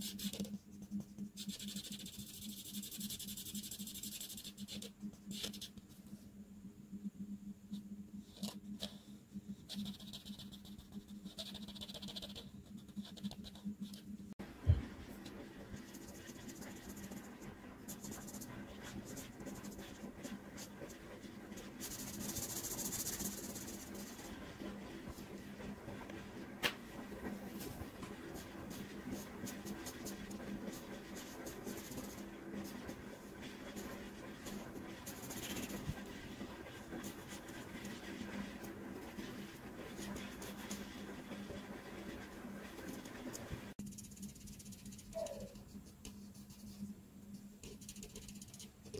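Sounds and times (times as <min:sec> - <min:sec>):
markers scratching on paper: 0:00.0 - 0:05.8, 0:09.7 - 0:14.0, 0:15.6 - 0:25.3, 0:27.4 - 0:46.9, 0:47.6 - 0:48.9.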